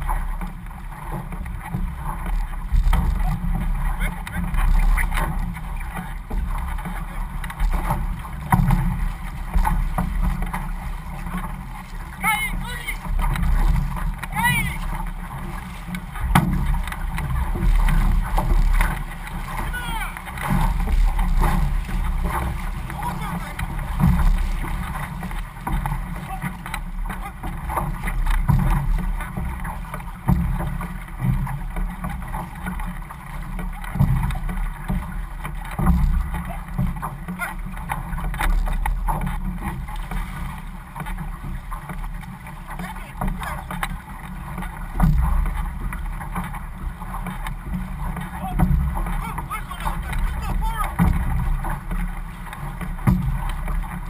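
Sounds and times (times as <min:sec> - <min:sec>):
paddles splashing water: 0:00.0 - 0:54.0
wind rumble on microphone: 0:00.0 - 0:54.0.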